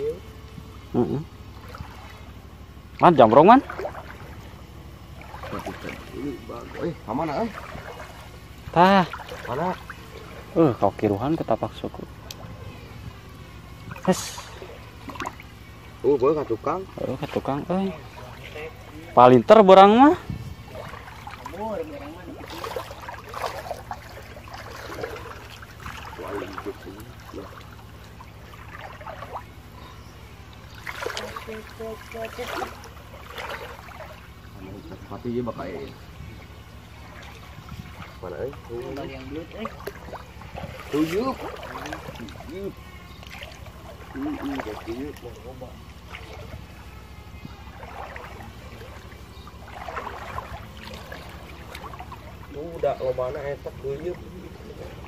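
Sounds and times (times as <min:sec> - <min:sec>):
steady low rumble: 0:00.0 - 0:55.0
water sloshing around wading legs: 0:00.0 - 0:55.0.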